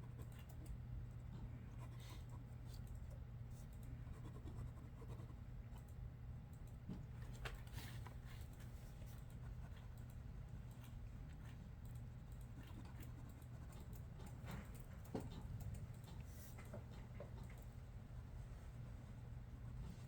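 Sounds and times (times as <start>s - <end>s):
low hum of room equipment: 0.0s - 20.0s.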